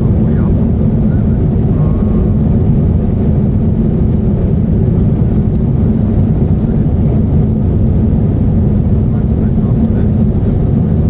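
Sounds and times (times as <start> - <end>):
airplane cabin roar: 0.0 - 11.0.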